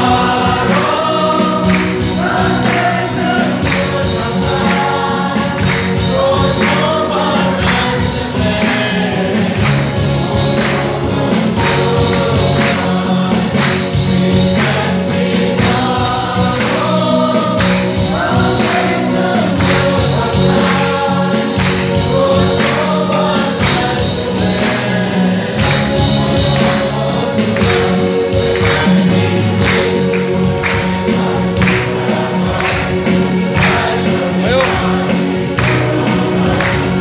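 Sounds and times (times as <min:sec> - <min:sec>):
amplified accompaniment with beat: 0:00.0 - 0:37.0
congregation and choir singing: 0:00.0 - 0:37.0.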